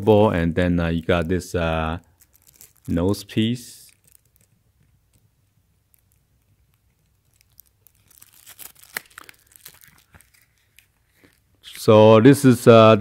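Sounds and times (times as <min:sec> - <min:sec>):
card and plastic crinkling: 0:00.0 - 0:12.0.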